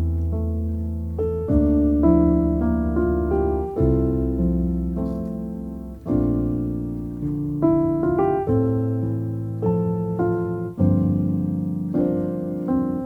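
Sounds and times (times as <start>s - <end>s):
slow piano piece: 0.0s - 13.0s.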